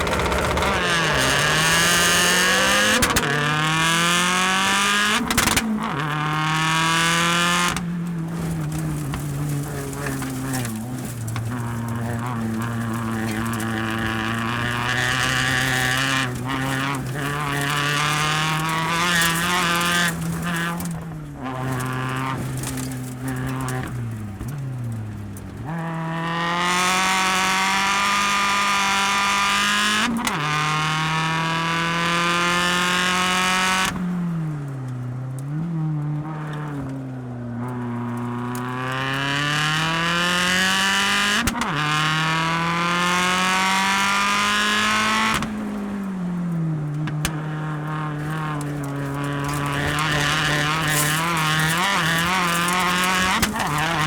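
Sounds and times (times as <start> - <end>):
exhaust cracks and pops: 0.0 - 54.0
racing car engine revving: 0.0 - 54.0.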